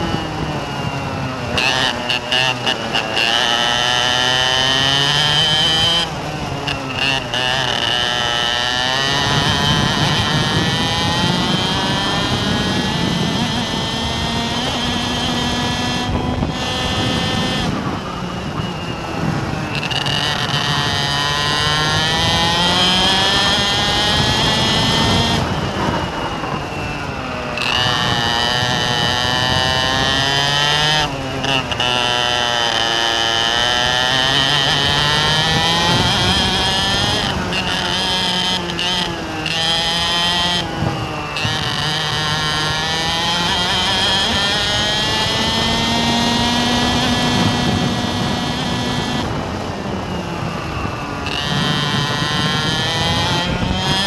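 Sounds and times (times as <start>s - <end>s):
noisy rush: 0.0s - 54.0s
vehicle engine revving: 0.0s - 54.0s.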